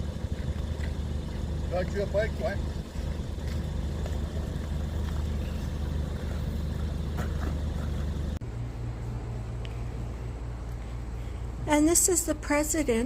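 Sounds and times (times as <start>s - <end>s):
low hum: 0.0s - 13.0s
vehicle engine and road rumble: 0.0s - 13.0s.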